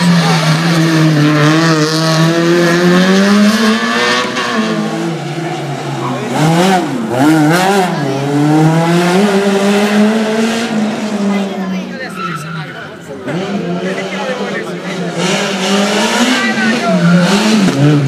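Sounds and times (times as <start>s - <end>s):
car engine rev blips: 0.0s - 18.0s
car engines revving: 0.0s - 18.0s.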